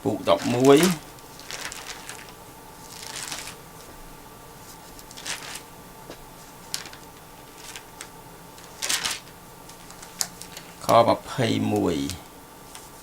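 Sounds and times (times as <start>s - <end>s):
paper pages rustling: 0.1s - 11.0s, 11.7s - 13.0s.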